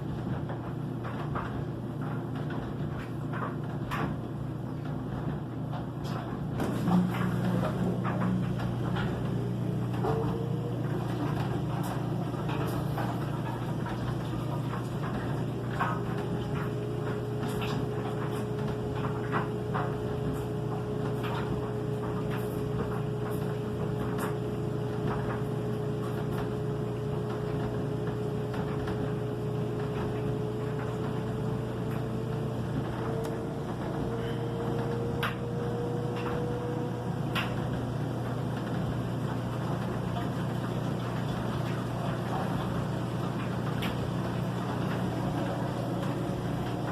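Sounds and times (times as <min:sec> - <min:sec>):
steady hum: 0:00.0 - 0:46.9
washing machine motor whine: 0:00.0 - 0:46.9.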